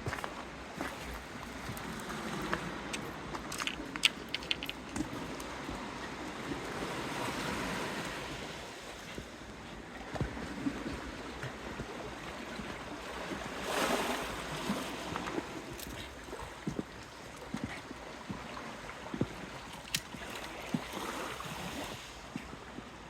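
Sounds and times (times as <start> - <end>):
small waves washing on shore: 0.1 - 23.0.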